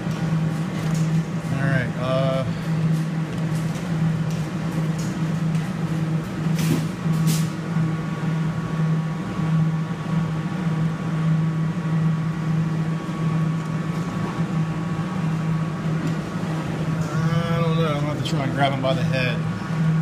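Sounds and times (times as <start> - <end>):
claw machine hum: 0.0 - 20.0.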